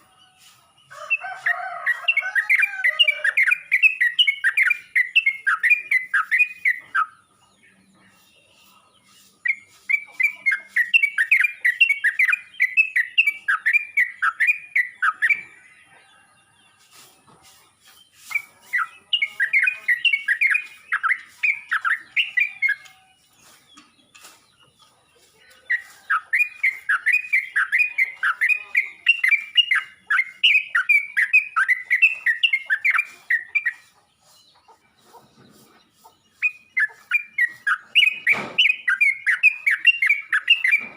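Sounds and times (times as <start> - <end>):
bird chirping song: 0.0 - 40.9.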